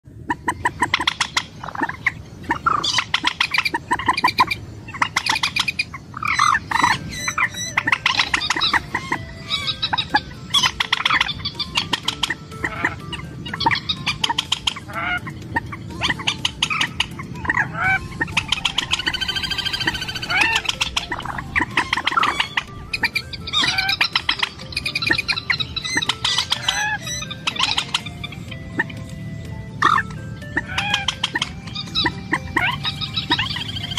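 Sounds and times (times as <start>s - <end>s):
bird squawking clucking notes: 0.1s - 33.9s
bird trilling call: 0.2s - 33.9s.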